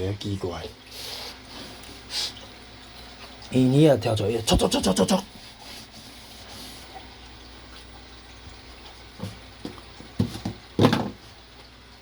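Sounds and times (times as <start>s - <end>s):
fish tank water running: 0.0s - 12.0s.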